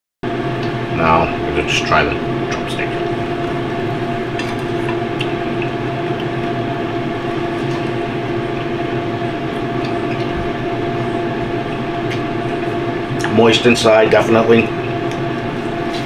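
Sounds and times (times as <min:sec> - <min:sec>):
air fryer fan humming: 0:00.2 - 0:16.0.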